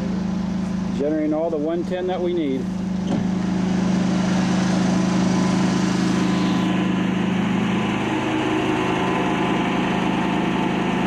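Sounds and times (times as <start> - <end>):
diesel generator running: 0.0 - 11.0.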